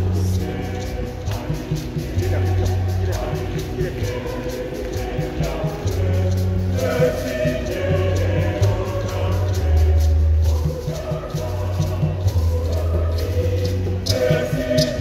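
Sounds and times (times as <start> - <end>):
church choir singing a hymn: 0.0 - 15.0
steady beat: 0.0 - 15.0.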